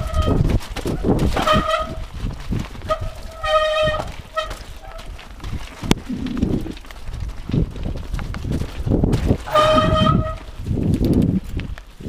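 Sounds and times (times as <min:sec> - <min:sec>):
tyres rumbling on rocky trail: 0:00.0 - 0:12.0.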